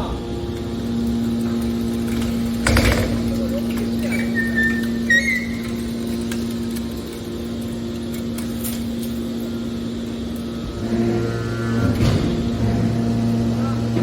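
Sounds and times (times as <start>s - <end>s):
baler machine hum: 0.0s - 14.0s
low machine tone: 0.0s - 14.0s.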